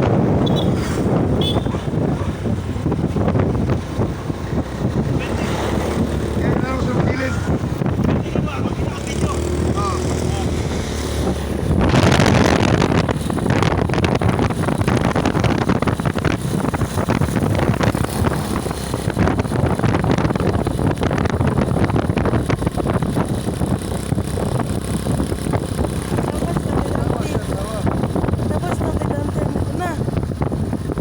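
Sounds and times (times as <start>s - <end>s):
road vehicle noise: 0.0s - 31.0s
wind buffeting microphone: 0.0s - 31.0s.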